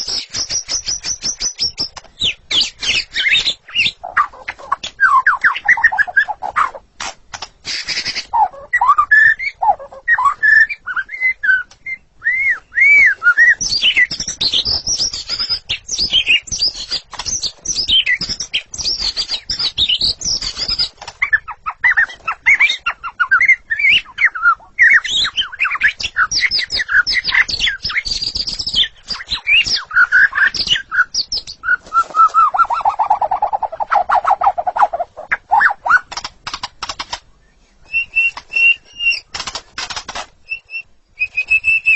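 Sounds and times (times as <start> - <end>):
bird singing whistled song: 0.0 - 6.7, 7.7 - 36.1, 37.4 - 39.3, 40.4 - 41.9.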